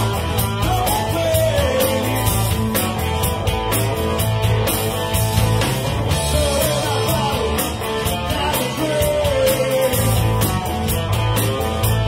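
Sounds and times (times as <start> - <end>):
rock band playing live: 0.0 - 12.0
wavering high lead guitar line: 0.0 - 12.0.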